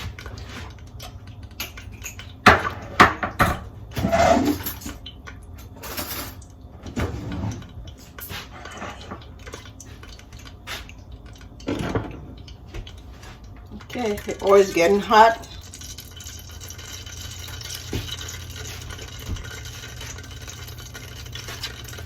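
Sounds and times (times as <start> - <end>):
pots and utensils clattering: 0.0 - 22.0.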